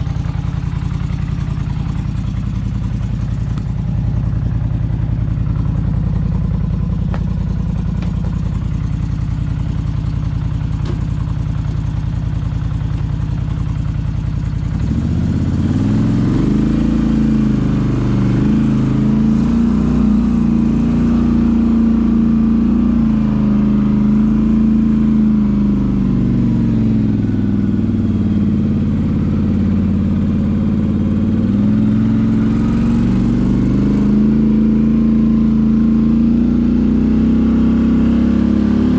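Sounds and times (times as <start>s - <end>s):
atv engine idling and revving: 0.0s - 38.9s.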